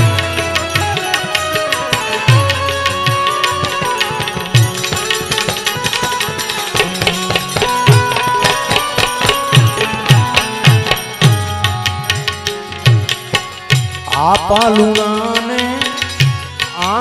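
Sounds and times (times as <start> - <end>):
hand drum rhythm: 0.0 - 17.0
held melody line: 0.0 - 17.0
jingling percussion: 0.0 - 17.0.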